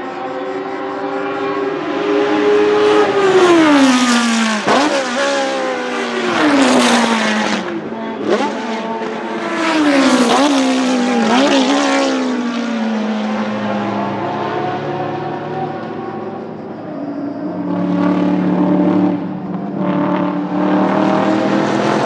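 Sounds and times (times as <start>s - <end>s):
racing car engines at high revs: 0.0s - 22.0s.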